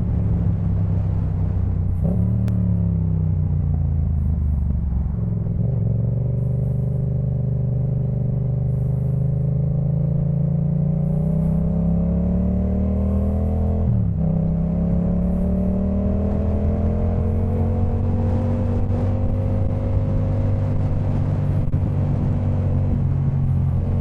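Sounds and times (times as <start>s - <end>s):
motorcycle engine while riding: 0.0s - 24.0s.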